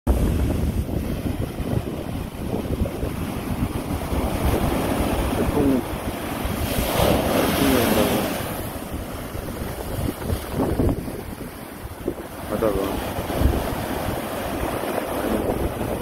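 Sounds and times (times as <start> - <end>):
sea surf breaking on sand: 0.1 - 16.0
wind buffeting microphone: 0.1 - 16.0.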